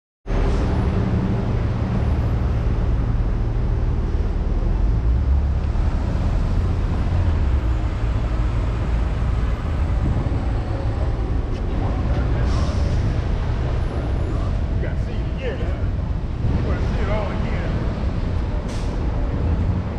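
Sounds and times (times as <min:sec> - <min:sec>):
city street traffic hum: 0:00.2 - 0:19.9.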